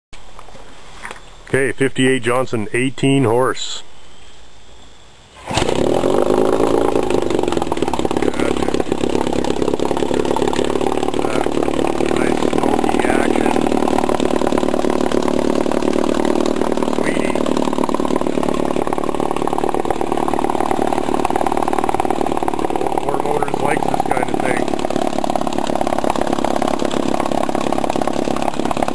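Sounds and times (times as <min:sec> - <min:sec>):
outboard motor starting and running: 0:05.4 - 0:28.9.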